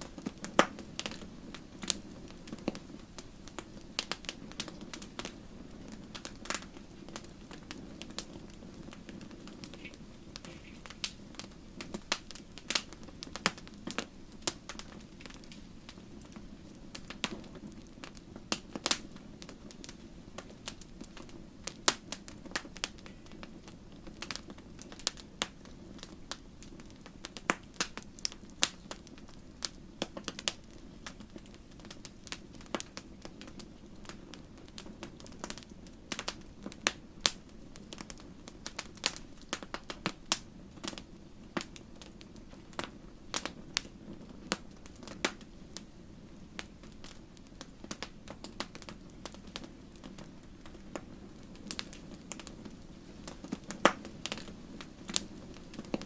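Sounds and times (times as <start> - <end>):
campfire pops and snaps: 0.0 - 56.0
flames rushing: 0.0 - 56.0.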